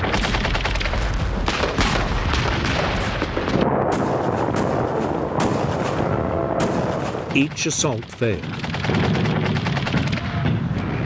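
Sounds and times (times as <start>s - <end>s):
gunfire shots: 0.0s - 10.8s
low rumble of explosions: 0.0s - 11.0s.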